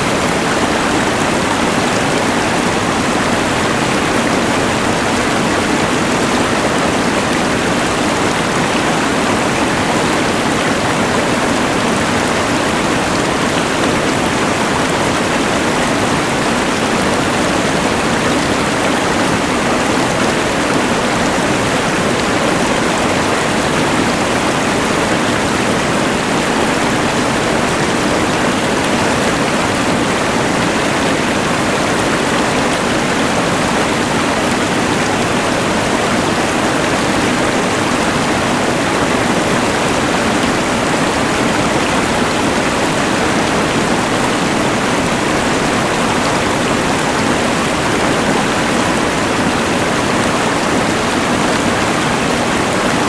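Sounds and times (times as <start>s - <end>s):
mountain river rushing: 0.0s - 53.0s.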